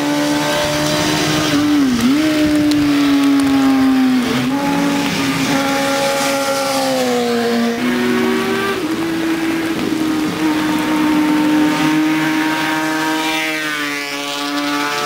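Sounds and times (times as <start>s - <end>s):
motorcycle engines at high revs: 0.0s - 15.0s.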